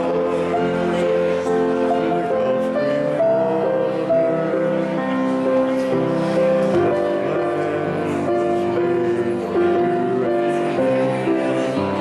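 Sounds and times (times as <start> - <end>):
slow sustained keyboard chords: 0.0 - 12.0.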